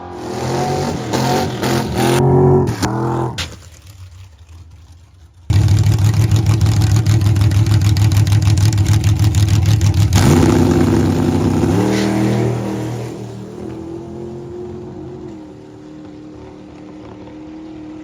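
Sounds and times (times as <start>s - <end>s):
drag car engine revving: 0.0s - 18.0s.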